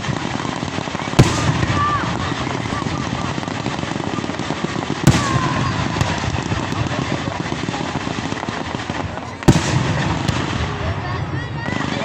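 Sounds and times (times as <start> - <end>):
fireworks crackling: 0.0 - 12.0
loud firework bang: 1.1 - 12.0.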